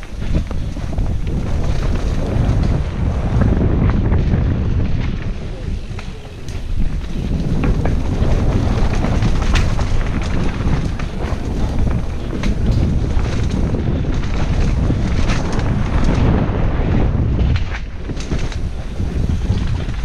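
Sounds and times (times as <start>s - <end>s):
bike rattling over rough ground: 0.0s - 20.0s
wind rushing over microphone: 0.0s - 20.0s.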